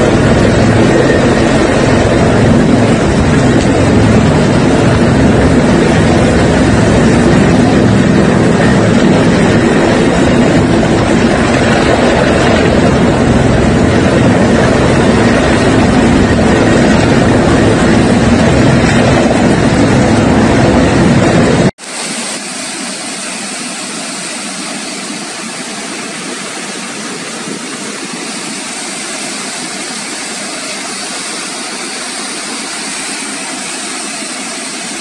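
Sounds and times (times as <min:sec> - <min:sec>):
helicopter rotor hovering: 0:00.0 - 0:35.0.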